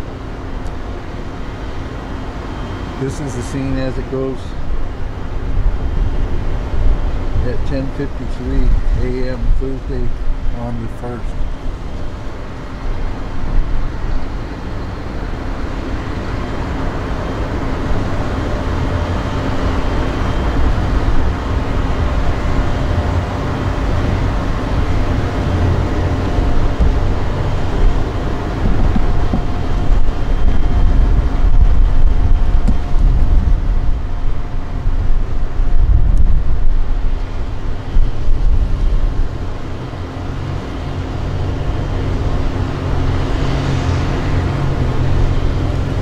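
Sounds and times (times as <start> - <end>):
faint engine hum: 0.0 - 46.0
wind buffeting the microphone: 0.0 - 46.0.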